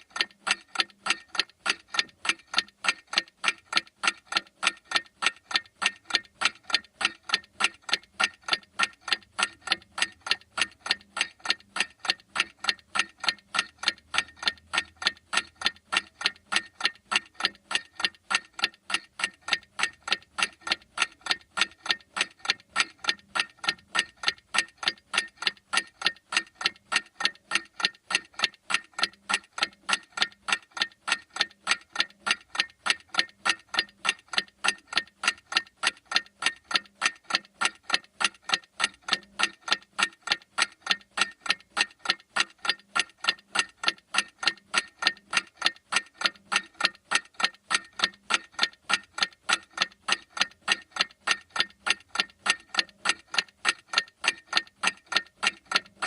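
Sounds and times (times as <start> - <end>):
clock ticking: 0.0 - 56.0.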